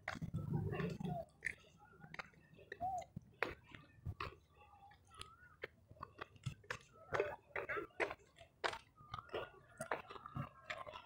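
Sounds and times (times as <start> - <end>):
footsteps on stony path: 0.0 - 11.0.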